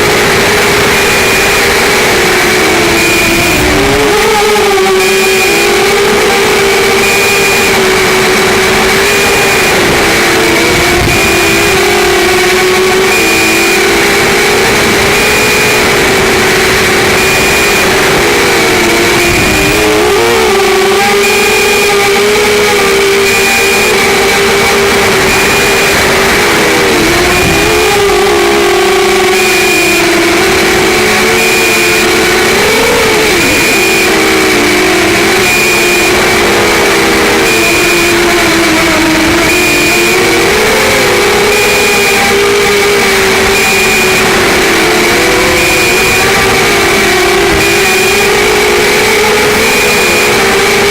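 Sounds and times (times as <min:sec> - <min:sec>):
quadcopter motors whining: 0:00.0 - 0:50.9.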